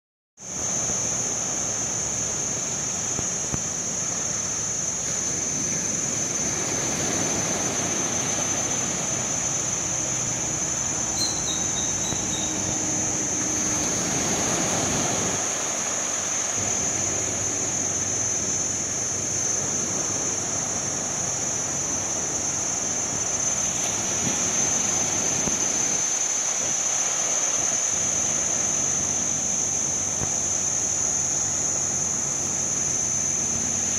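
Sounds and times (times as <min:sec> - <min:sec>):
high-pitched whine: 0:00.4 - 0:33.9
sea waves washing onto shore: 0:00.5 - 0:32.6.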